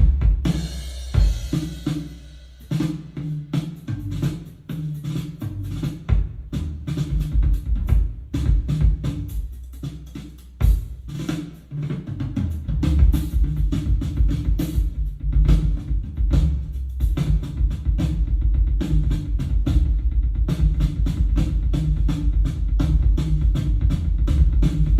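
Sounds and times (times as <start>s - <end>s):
drum-led music with heavy bass: 0.0s - 24.9s.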